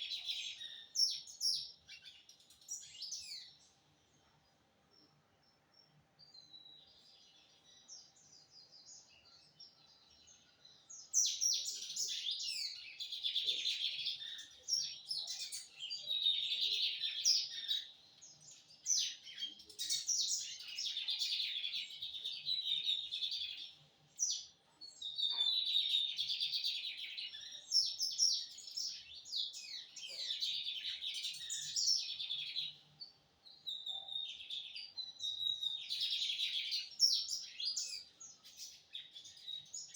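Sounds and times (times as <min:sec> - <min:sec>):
bird twittering and singing: 0:00.0 - 0:04.1, 0:05.0 - 0:39.9.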